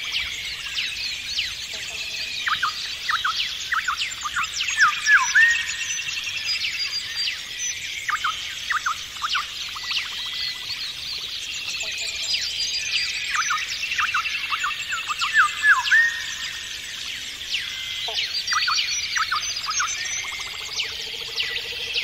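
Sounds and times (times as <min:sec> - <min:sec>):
birds singing and calling: 0:00.0 - 0:22.0.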